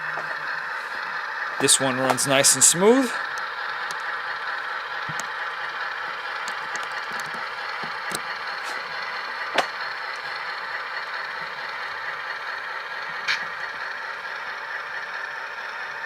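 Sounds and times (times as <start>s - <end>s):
thin diesel engine drone: 0.0s - 16.0s.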